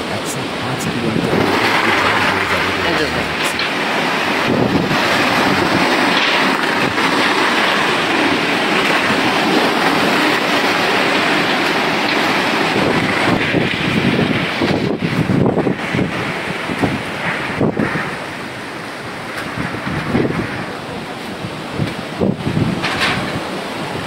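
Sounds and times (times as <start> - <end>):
wind buffeting the microphone: 0.0 - 24.0
wind-driven rain: 0.0 - 24.0.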